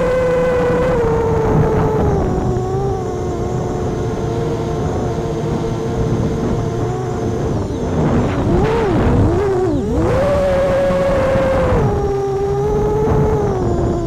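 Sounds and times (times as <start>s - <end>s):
quadcopter motors whining: 0.0s - 14.0s
wind rumble: 0.0s - 14.0s.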